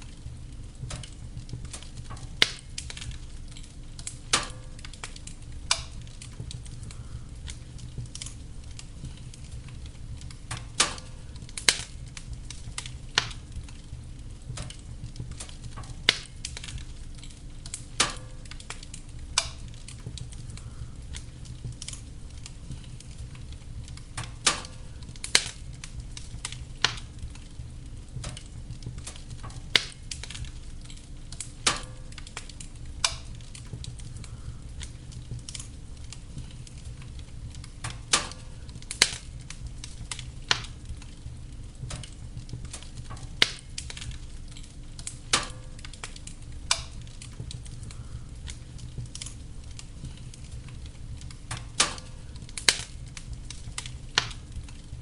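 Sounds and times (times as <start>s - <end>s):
fire flames rumbling and hissing: 0.0s - 55.0s
logs crackling and popping: 0.0s - 55.0s.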